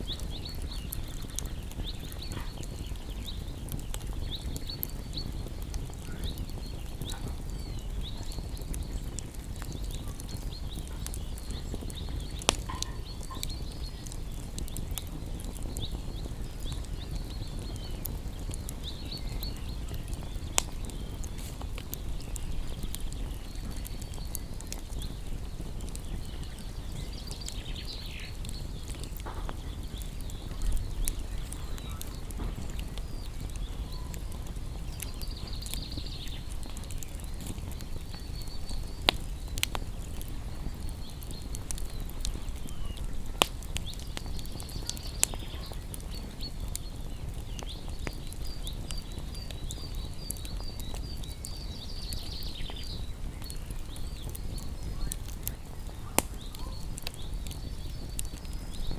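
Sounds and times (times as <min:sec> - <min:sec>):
bonfire crackling and popping: 0:00.0 - 0:58.9
small birds chirping: 0:00.0 - 0:58.9.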